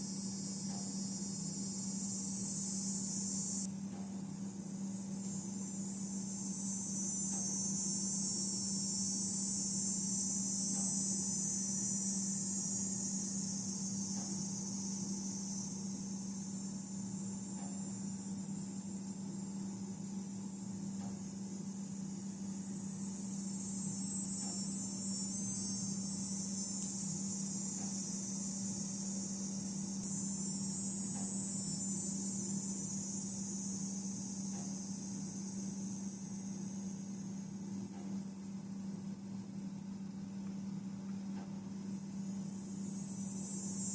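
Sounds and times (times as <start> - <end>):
crickets chirring: 0.0 - 43.9
insects trilling: 0.0 - 43.9
low steady hum: 0.0 - 43.9.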